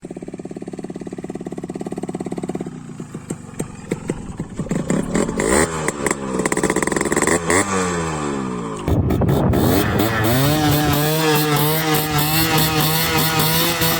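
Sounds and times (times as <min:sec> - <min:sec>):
motorcycle engine idling and revving: 0:00.0 - 0:13.9.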